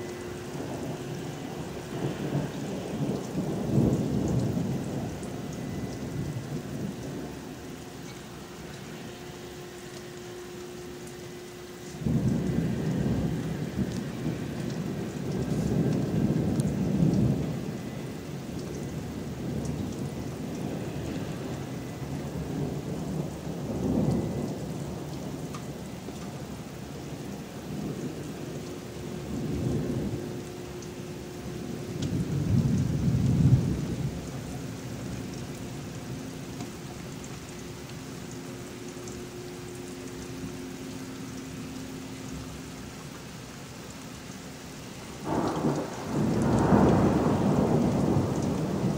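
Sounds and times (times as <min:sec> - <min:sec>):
thunder rumbling: 0:00.0 - 0:42.9, 0:44.1 - 0:48.9
steady rain: 0:00.0 - 0:48.9.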